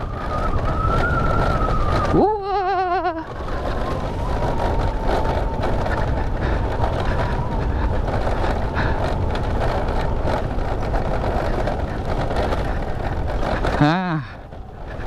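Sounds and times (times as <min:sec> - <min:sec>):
motorcycle engine and tyres: 0:00.0 - 0:15.0
wind buffeting microphone: 0:00.0 - 0:15.0.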